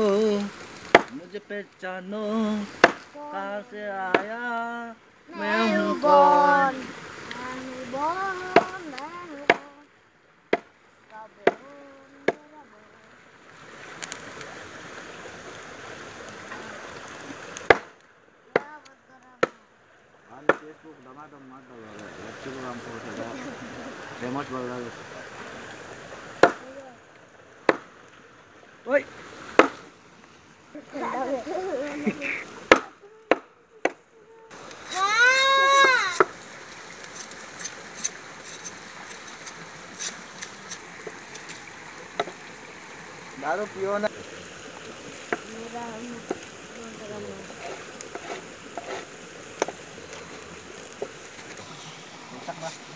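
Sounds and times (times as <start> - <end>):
steady rushing hiss: 0.0 - 52.9.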